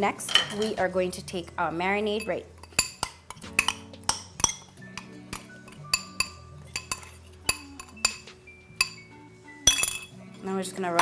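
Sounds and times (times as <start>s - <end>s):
background music: 0.0s - 11.0s
utensil clinking on glass bowl: 0.3s - 0.8s, 2.1s - 11.0s.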